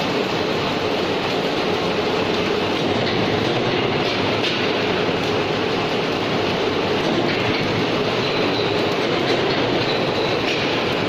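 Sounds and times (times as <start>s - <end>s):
welding arc crackling hiss: 0.0s - 11.0s.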